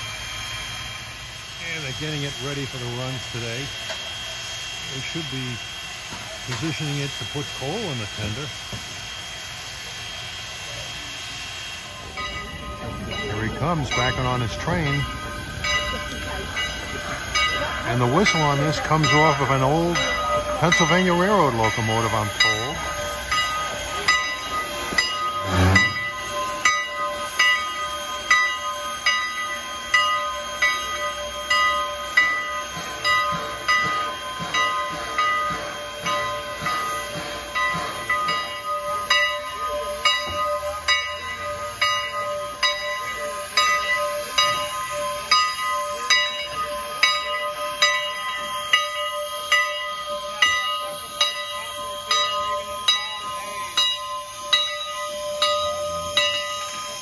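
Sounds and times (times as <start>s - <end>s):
steam hiss: 0.0s - 57.0s
steam locomotive air pump: 0.0s - 57.0s.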